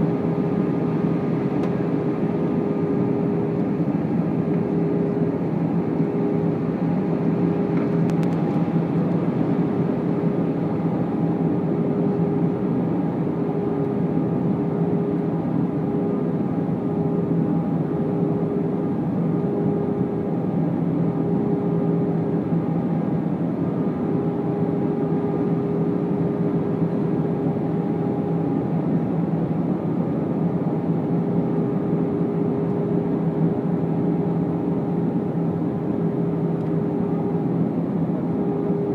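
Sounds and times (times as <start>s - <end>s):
airliner cabin noise: 0.0s - 38.9s.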